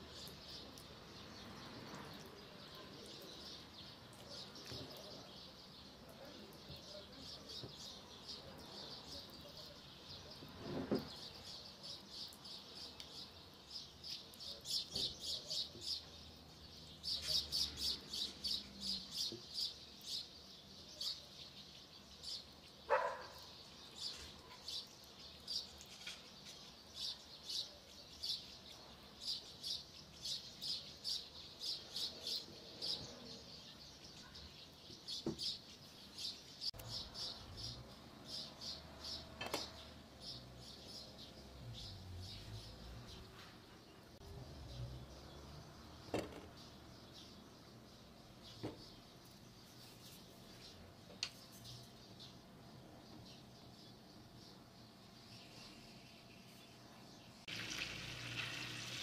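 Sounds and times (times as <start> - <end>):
small bird chirping: 0.0 - 59.0.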